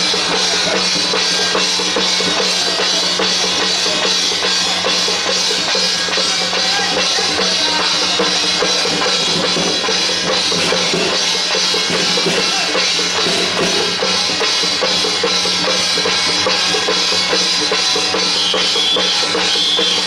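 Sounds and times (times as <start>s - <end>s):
procession drums and percussion: 0.0s - 20.0s.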